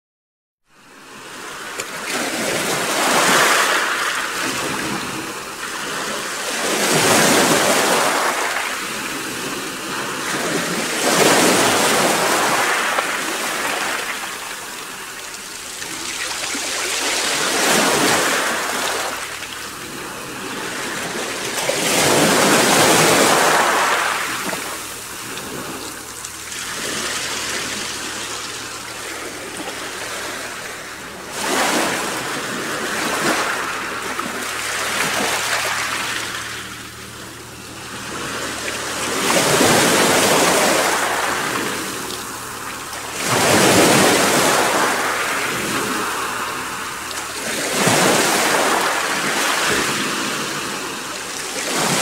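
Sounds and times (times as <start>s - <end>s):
waves breaking on shore: 0.8s - 52.0s.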